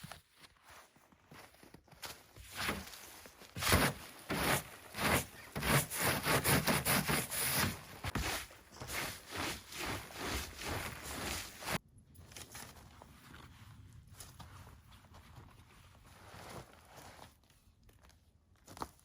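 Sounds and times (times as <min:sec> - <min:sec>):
scuffing and rustling: 0:00.0 - 0:19.0.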